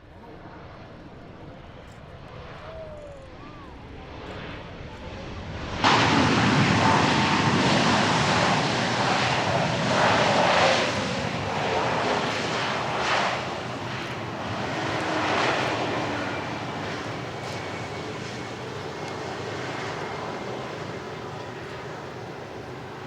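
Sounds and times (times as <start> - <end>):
jet aircraft flying past: 0.0 - 23.0.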